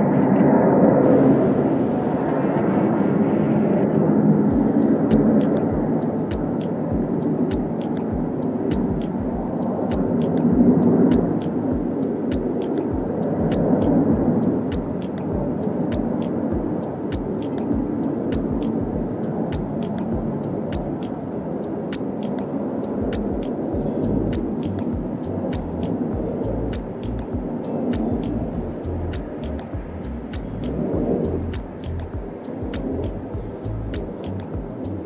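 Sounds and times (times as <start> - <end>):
aircraft engines rumbling: 0.0 - 35.0
background music with clicks and thumps: 4.5 - 35.0.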